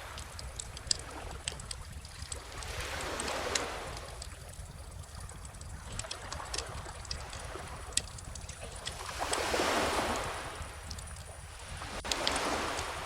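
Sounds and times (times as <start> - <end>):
wood fire crackling and popping: 0.0 - 9.5, 10.1 - 11.4.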